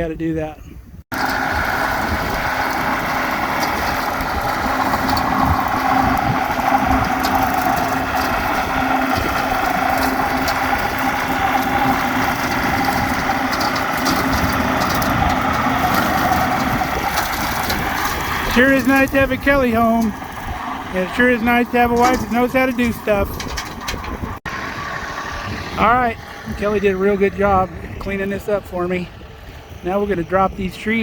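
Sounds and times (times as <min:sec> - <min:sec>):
tractor engine running: 0:01.1 - 0:31.0.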